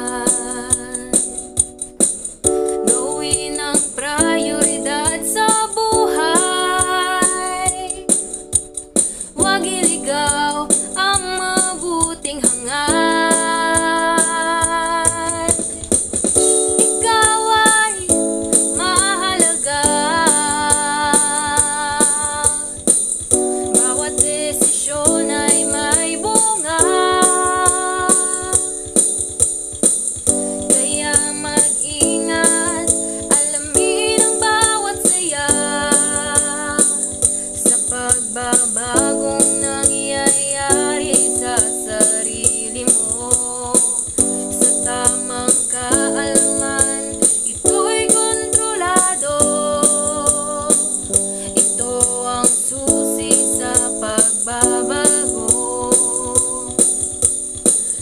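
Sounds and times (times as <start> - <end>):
backing music with steady beat: 0.0 - 58.0
girl singing pop song: 0.0 - 58.0
rattling shaker percussion: 0.0 - 58.0.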